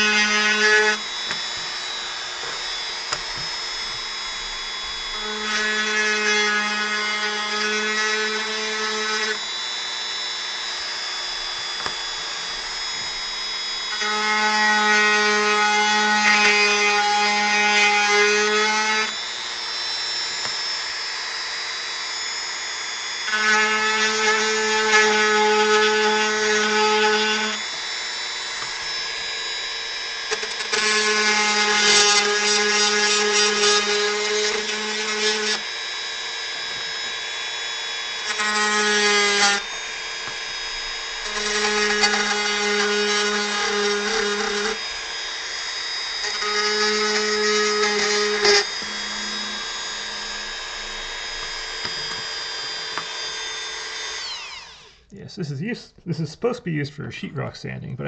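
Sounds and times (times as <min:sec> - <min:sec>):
rotary tool grinding wood: 0:00.0 - 0:55.0
rotary tool whining: 0:00.0 - 0:55.1.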